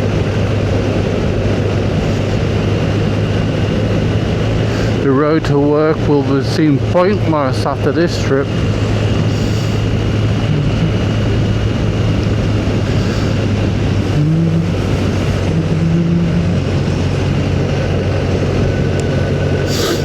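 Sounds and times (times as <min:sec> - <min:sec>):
motorcycle engine hum: 0:00.0 - 0:20.0
wind noise: 0:00.0 - 0:20.0.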